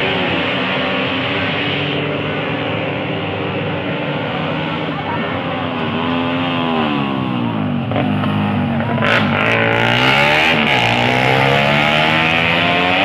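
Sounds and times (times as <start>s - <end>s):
racing motorcycles revving past: 0.0s - 13.0s.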